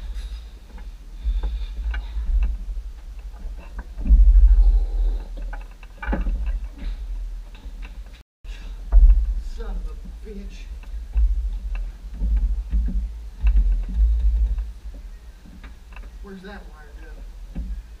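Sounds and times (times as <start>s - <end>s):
low rumbling thumps: 0.0s - 18.0s
knocks and clicks: 0.7s - 8.2s, 8.8s - 16.3s.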